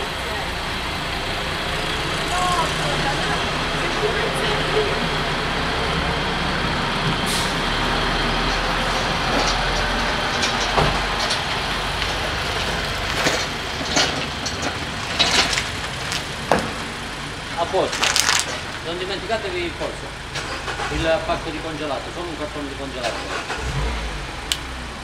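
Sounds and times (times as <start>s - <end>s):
steady vehicle noise: 0.0s - 25.0s.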